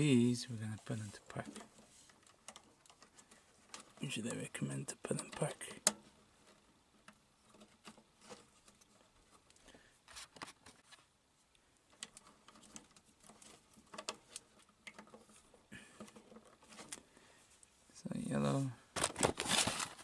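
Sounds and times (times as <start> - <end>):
wire connectors clicking and rustling: 0.6 - 17.7, 18.9 - 20.0.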